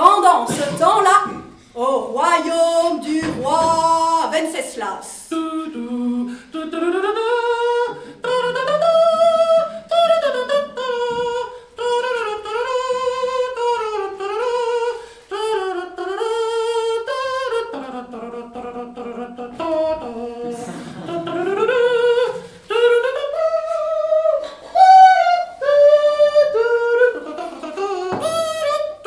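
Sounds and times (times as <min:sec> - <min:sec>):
person singing wordless tune: 0:00.0 - 0:29.0.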